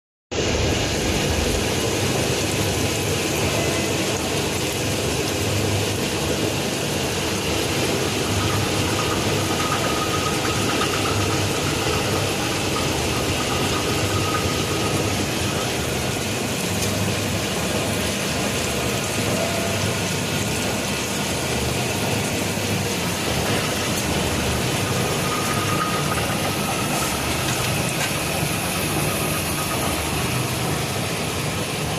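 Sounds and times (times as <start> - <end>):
steady mechanical running noise: 0.3 - 31.9.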